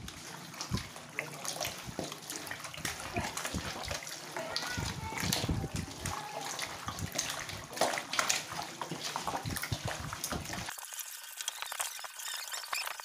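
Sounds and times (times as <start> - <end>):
hands squishing wet chicken: 0.0 - 10.7.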